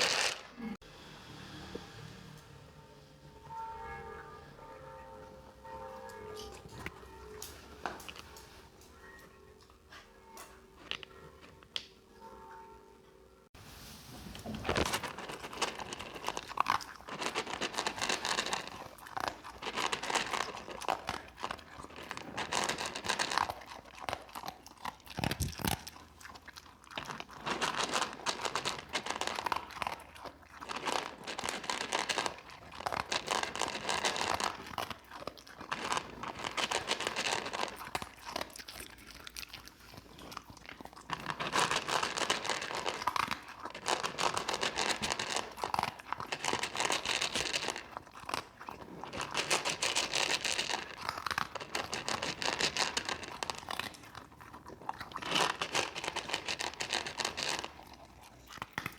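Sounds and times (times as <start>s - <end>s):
dog chewing and crunching: 0.0s - 0.5s, 6.3s - 12.0s, 14.4s - 58.9s.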